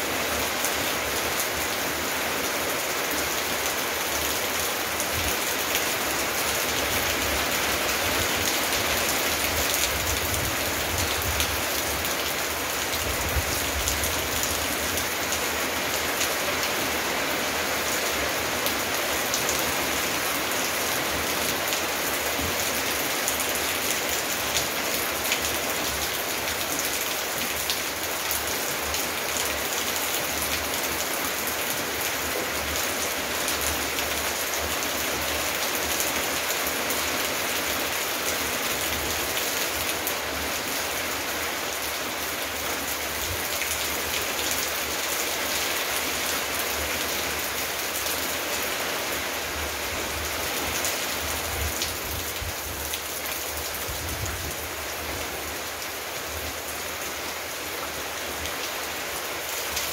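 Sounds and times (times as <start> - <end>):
heavy rain on paving: 0.0 - 59.9.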